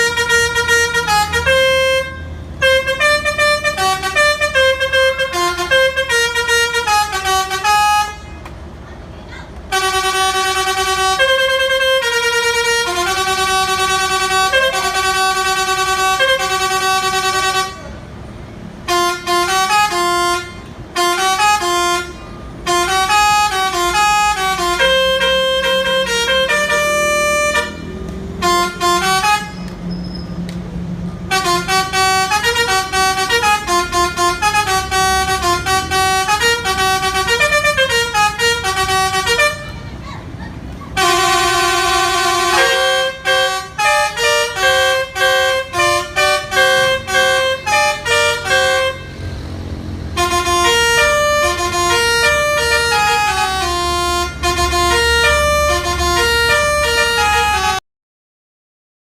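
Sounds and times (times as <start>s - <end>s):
vehicle musical horn playing a tune: 0.0s - 8.5s, 9.7s - 30.4s, 31.2s - 57.8s.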